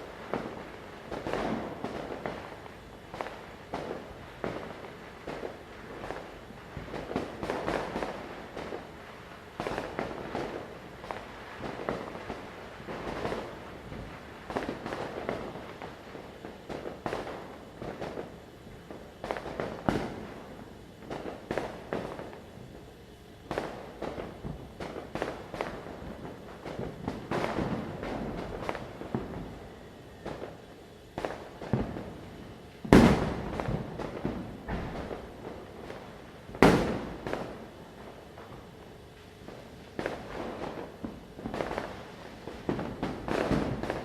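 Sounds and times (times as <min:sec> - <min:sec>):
firecrackers crackling and banging: 0:00.0 - 0:44.0.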